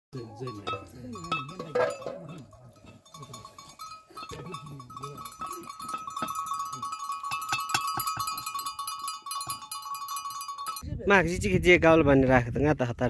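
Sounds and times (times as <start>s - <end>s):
animal bells clinking: 0.2s - 10.9s.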